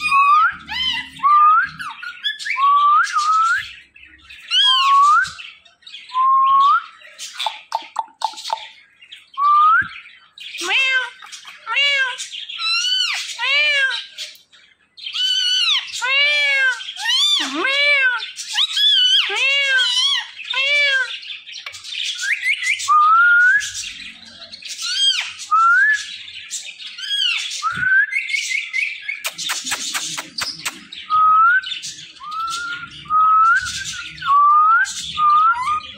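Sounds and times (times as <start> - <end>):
parakeet whistles and chirps: 0.0 - 8.7, 15.1 - 24.0, 24.7 - 35.9.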